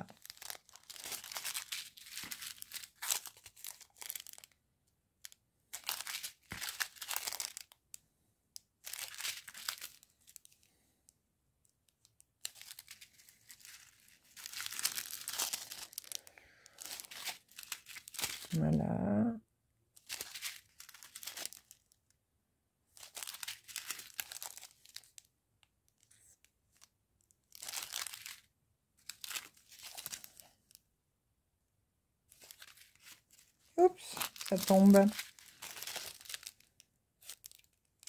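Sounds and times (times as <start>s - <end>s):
plastic sachets crinkling: 0.0s - 4.6s, 5.2s - 7.9s, 8.8s - 10.8s, 11.9s - 18.6s, 20.0s - 22.1s, 22.9s - 25.3s, 25.9s - 30.8s, 32.3s - 38.0s.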